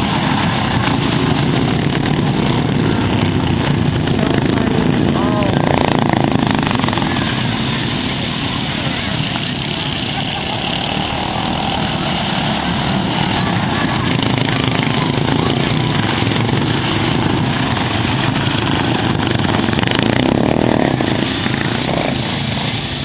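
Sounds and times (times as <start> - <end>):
lawn mower engines running hard: 0.0 - 23.0.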